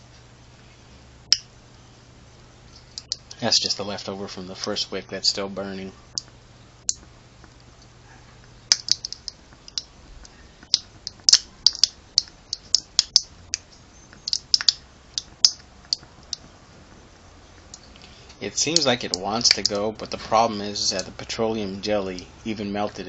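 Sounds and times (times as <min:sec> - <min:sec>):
burning wick crackling: 0:00.0 - 0:23.0.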